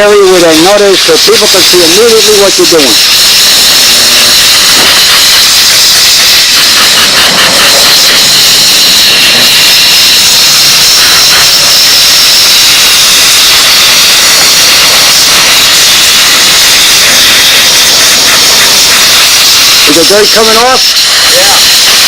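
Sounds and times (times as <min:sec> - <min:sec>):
steam cleaner hissing: 0:00.4 - 0:22.0.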